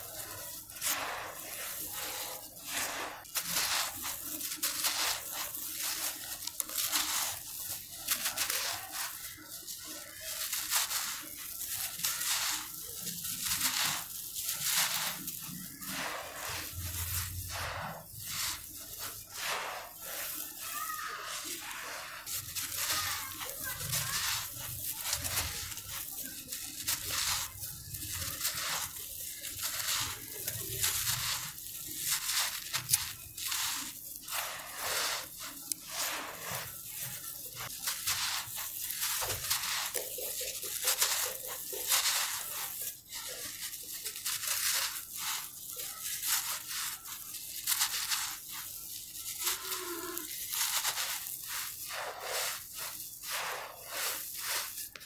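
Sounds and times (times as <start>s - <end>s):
hands digging in gravelly dirt: 0.0s - 55.0s
loose grains falling: 0.0s - 55.0s.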